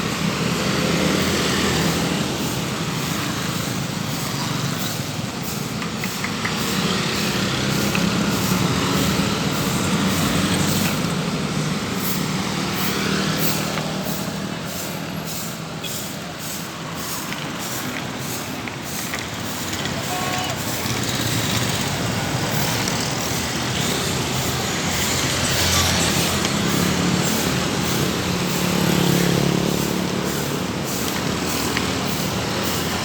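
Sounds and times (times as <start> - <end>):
heavy engine running: 0.0 - 33.0
brooms scraping gravel on road: 6.5 - 33.0.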